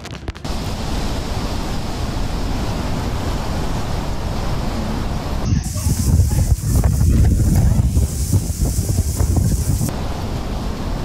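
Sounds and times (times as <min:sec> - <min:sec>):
strong wind and driving rain: 0:00.0 - 0:11.0
wind buffeting microphone: 0:00.0 - 0:11.0.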